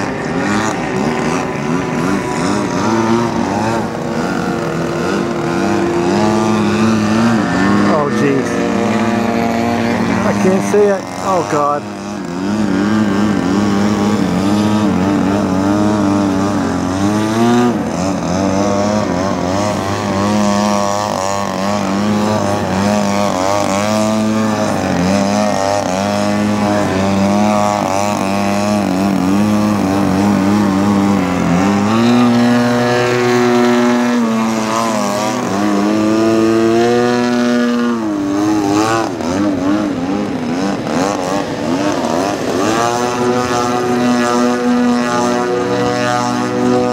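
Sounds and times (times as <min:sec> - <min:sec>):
model plane engine and propeller: 0:00.0 - 0:46.9.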